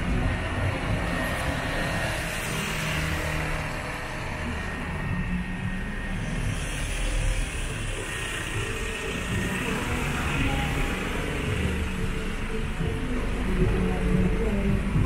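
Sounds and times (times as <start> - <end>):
tyres hissing on wet road: 0.0 - 4.9, 6.1 - 13.5
cars passing: 0.0 - 15.0
low engine hum: 0.0 - 15.0.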